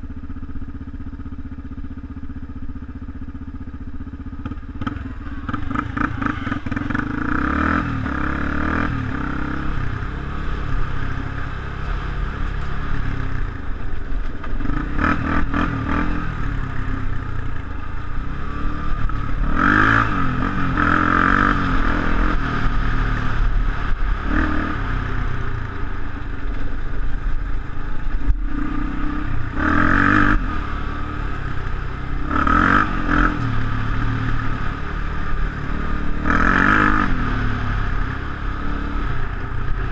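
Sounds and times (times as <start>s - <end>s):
off-road vehicle engine revving: 4.4s - 39.9s.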